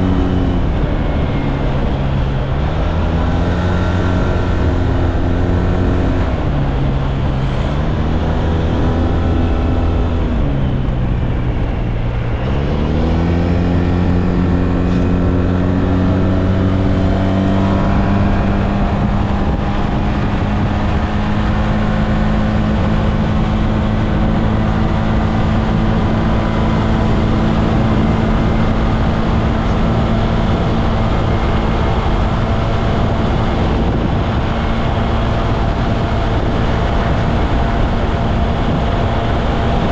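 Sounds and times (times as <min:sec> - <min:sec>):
scooter engine accelerating: 0:00.0 - 0:39.9.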